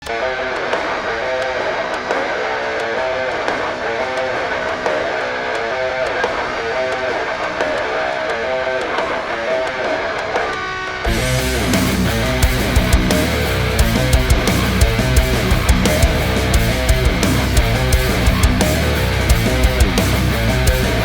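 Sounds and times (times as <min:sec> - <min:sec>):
guitar picking and strumming: 0:00.0 - 0:21.0.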